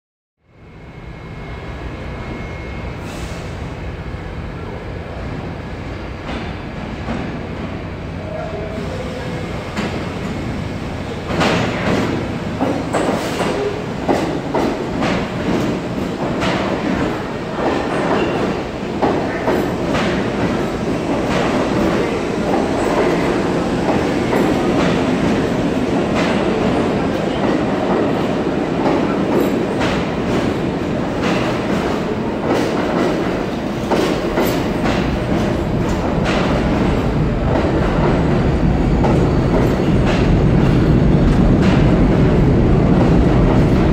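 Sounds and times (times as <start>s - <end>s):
subway train rumbling: 0.4s - 43.9s.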